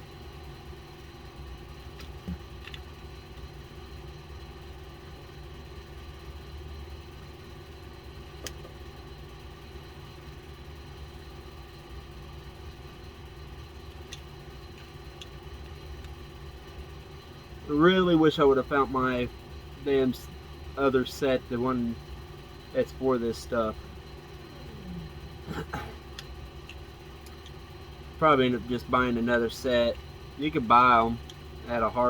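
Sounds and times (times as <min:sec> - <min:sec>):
air conditioner humming: 0:00.0 - 0:32.0.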